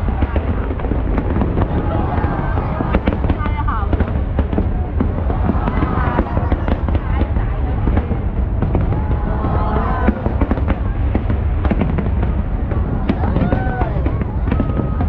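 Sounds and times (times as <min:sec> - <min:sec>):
fireworks crackling and popping: 0:00.0 - 0:15.0
low rumble: 0:00.0 - 0:15.0.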